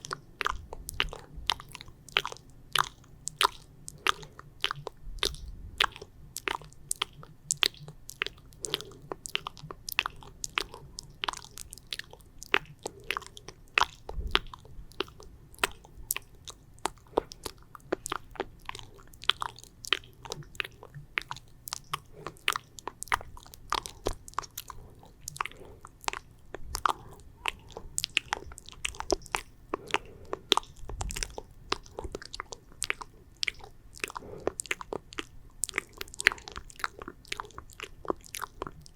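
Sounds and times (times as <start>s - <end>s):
wet mouth clicks and smacks: 0.0s - 38.9s.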